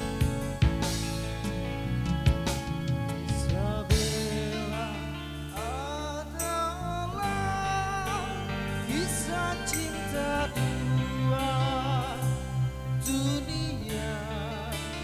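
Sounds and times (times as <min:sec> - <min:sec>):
live band instrumental music: 0:00.0 - 0:15.0.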